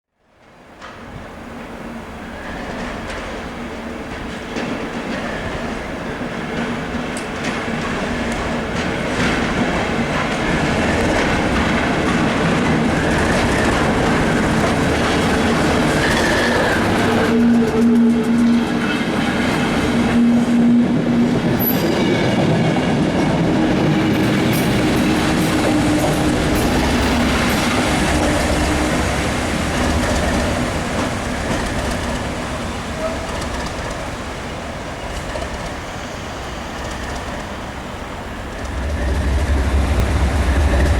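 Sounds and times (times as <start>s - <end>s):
train wheels on rails: 0.4s - 40.9s
train diesel engine droning: 5.4s - 40.9s.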